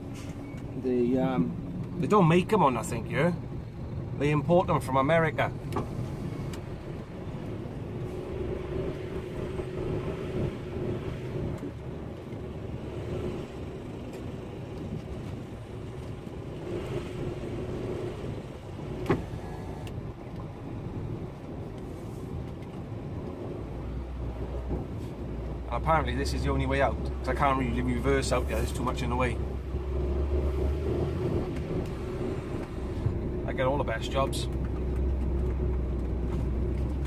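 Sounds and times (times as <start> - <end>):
heavy vehicle engine rumble: 0.0 - 37.0.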